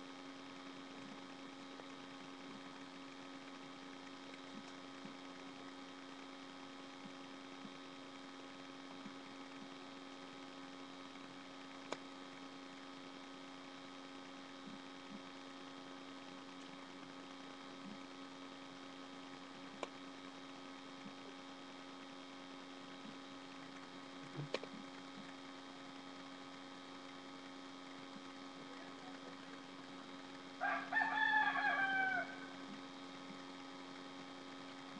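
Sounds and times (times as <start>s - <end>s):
electrical mains hum: 0.0s - 34.9s.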